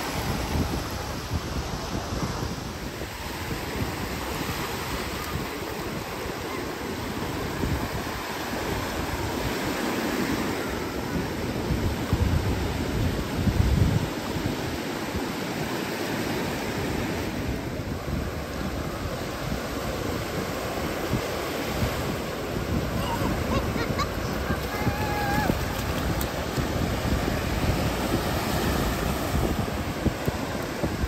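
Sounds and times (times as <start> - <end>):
ocean surf washing onto beach: 0.0 - 31.0
wind rumbling on microphone: 0.0 - 31.0.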